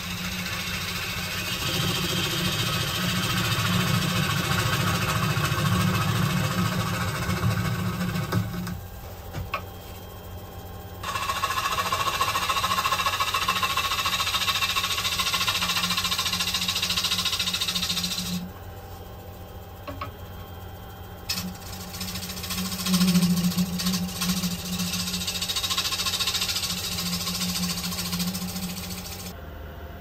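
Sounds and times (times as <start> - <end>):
turning tool scraping wood: 0.0 - 8.8, 11.0 - 18.4, 21.3 - 29.3
wood lathe humming: 0.0 - 8.8, 11.0 - 18.5, 19.8 - 20.1, 21.3 - 29.4.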